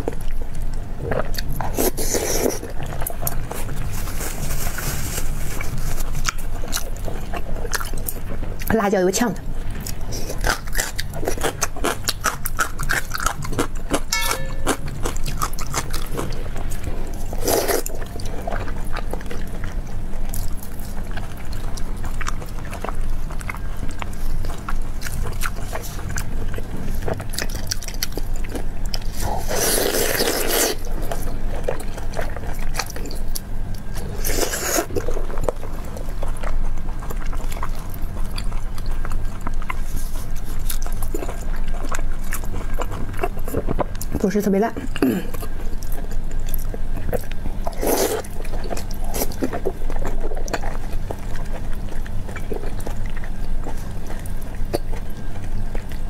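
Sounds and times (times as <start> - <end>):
wet chewing and lip-smacking: 5.6 - 8.8, 9.7 - 56.0.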